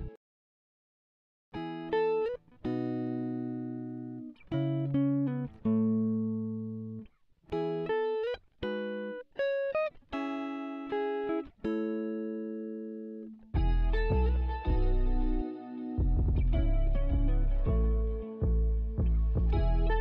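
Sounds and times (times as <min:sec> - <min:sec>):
solo plucked guitar: 0:01.6 - 0:20.0.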